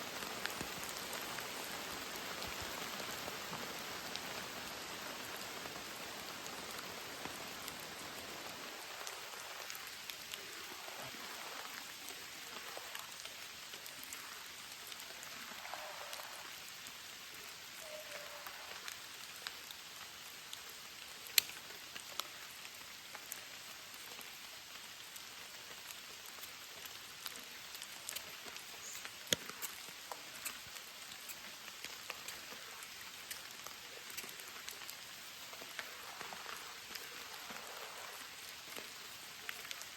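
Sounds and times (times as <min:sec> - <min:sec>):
raindrops tapping close by: 0:00.0 - 0:39.9
steady rain falling: 0:00.0 - 0:39.9.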